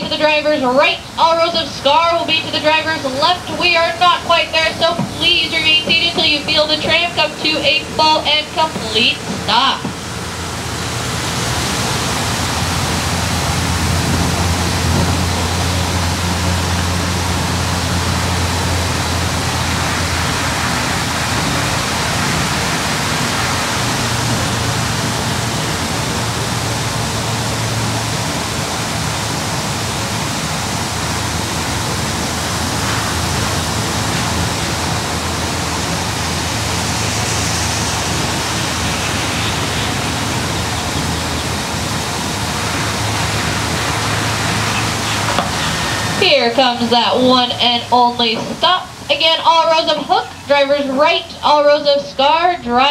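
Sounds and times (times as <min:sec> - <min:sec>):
tyres hissing on wet pavement: 0:00.0 - 0:52.9.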